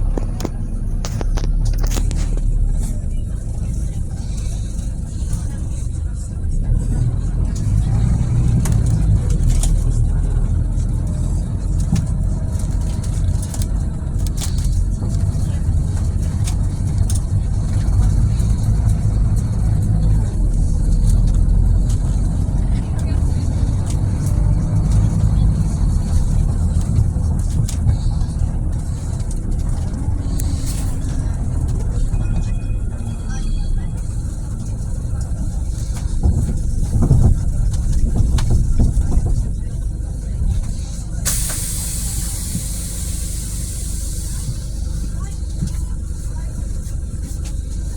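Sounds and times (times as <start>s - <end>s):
bus engine drone: 0.0s - 47.9s
light rattles and clicks: 0.0s - 47.9s.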